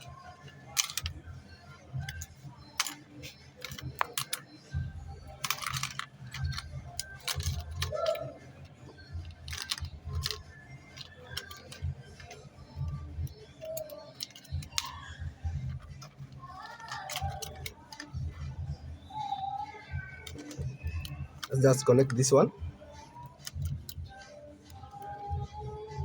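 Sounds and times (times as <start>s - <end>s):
small hardware clicking and tapping: 2.0s - 19.4s, 20.0s - 22.4s, 23.0s - 25.7s.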